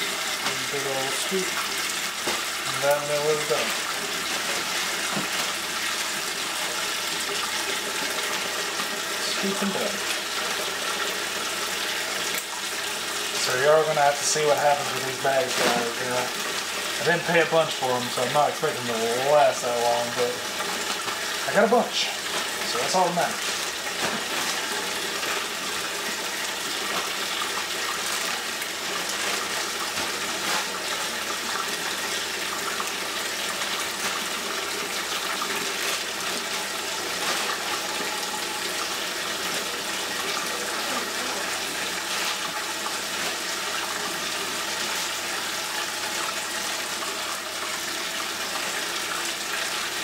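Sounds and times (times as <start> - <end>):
faucet running into sink: 0.0 - 50.0.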